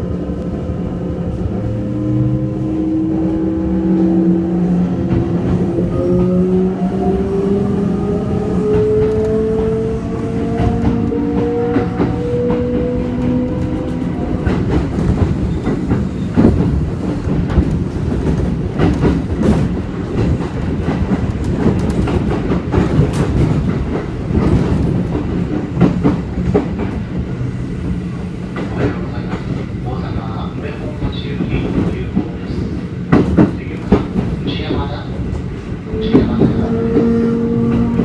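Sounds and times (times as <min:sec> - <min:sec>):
rail joint clicks and clatter: 0:00.0 - 0:38.0
train wheels rumbling over rails: 0:00.0 - 0:38.0.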